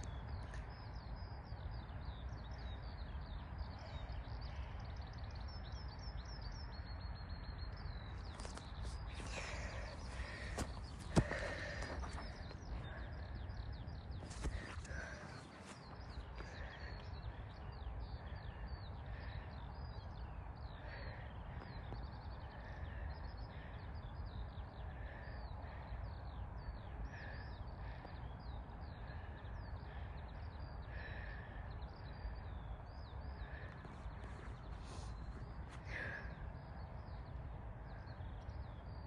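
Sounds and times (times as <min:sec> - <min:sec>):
birds chirping: 0:00.0 - 0:39.0
steady low rumble: 0:00.0 - 0:39.0.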